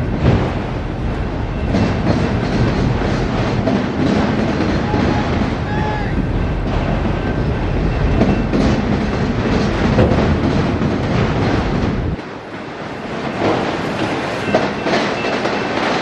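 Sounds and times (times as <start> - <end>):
freight wheels clattering on track: 0.0 - 16.0.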